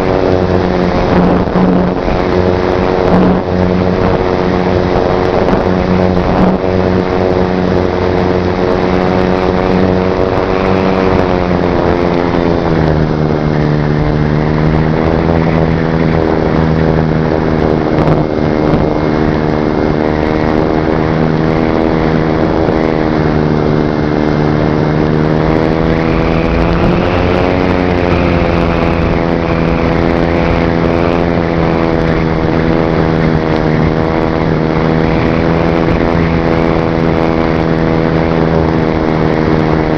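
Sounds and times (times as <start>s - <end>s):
electric motor and propeller running: 0.0s - 39.9s.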